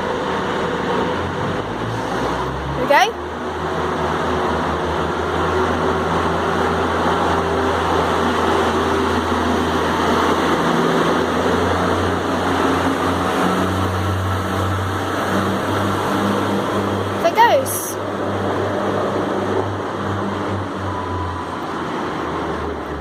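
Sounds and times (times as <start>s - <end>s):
diesel train engine droning: 0.0s - 23.0s.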